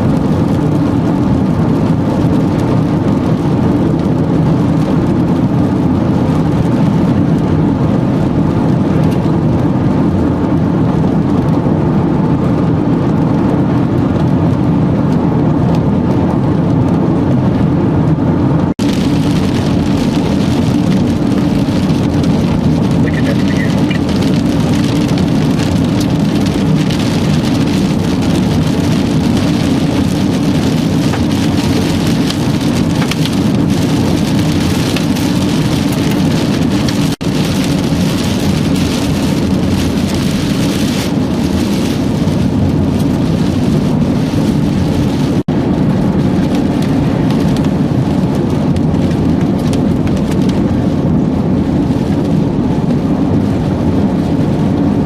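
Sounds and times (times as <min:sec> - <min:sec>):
loud rain: 0:00.0 - 0:55.0
wind: 0:00.0 - 0:55.0.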